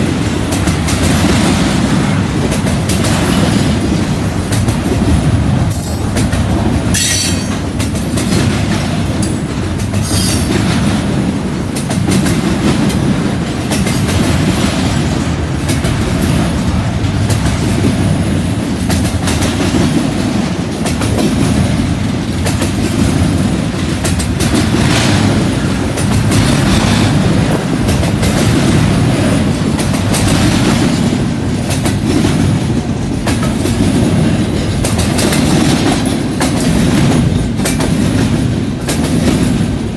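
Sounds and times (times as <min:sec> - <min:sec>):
freight train cars rumbling past: 0:00.0 - 0:39.9
wheels clacking over rail joints: 0:00.0 - 0:39.9.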